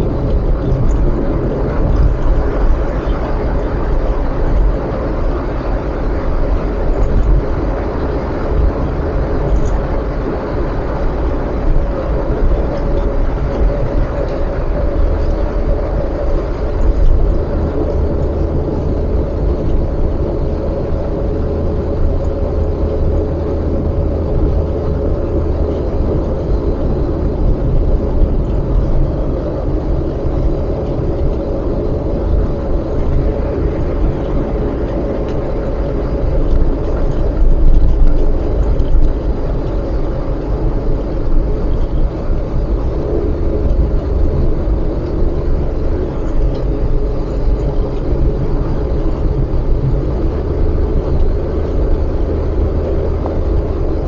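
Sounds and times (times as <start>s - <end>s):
car road rumble inside cabin: 0.0s - 54.0s.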